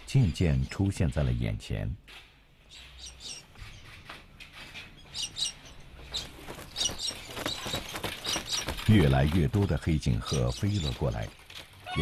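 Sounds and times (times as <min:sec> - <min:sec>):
birds calling: 0:02.3 - 0:12.0.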